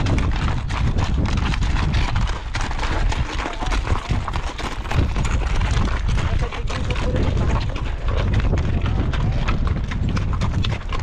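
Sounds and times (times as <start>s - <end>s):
hooves clopping on stony ground: 0.0s - 11.0s
wind rumble on microphone: 0.0s - 11.0s.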